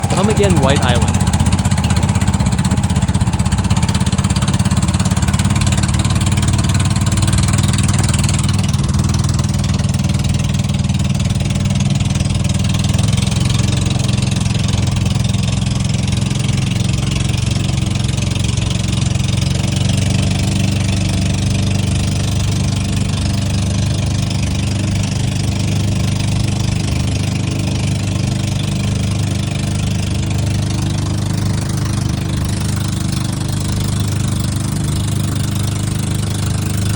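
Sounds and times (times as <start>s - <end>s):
engine running steadily: 0.0s - 36.9s.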